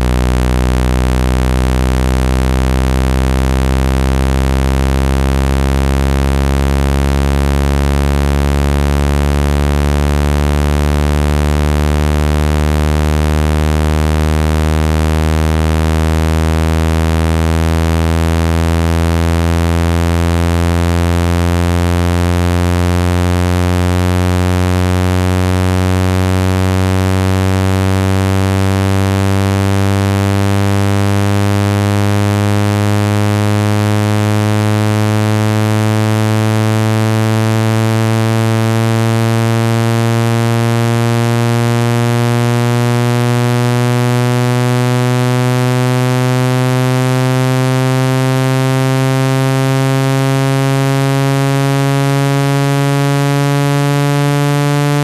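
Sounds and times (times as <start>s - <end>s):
buzzy low tone rising in pitch: 0.0s - 55.0s.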